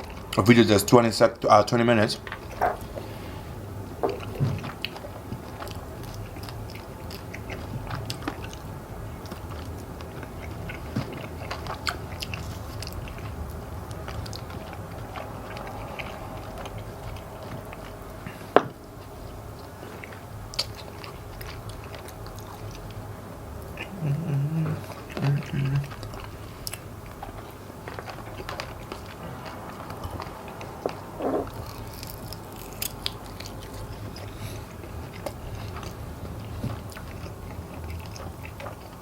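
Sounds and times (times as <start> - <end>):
chewing crunchy chicken: 0.0 - 39.0
steady low hum: 0.0 - 39.0.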